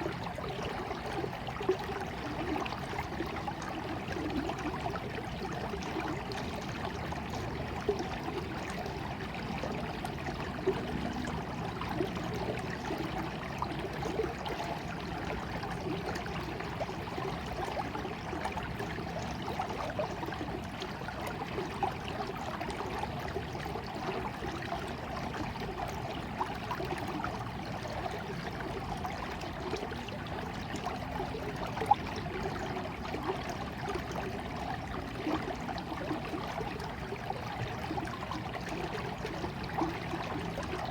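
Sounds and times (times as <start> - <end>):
stream babbling: 0.0 - 40.9
water splashes and drips: 0.0 - 40.9.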